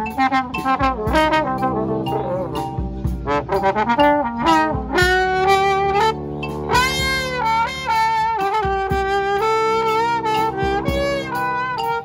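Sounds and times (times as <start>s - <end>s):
brass band playing: 0.0s - 12.0s
trombone holding long notes: 0.0s - 12.0s.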